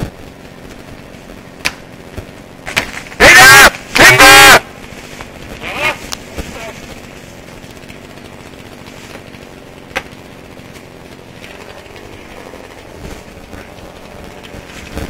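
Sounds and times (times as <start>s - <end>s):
sharp crack: 0.2s - 15.0s
chainsaw idling: 2.6s - 14.9s.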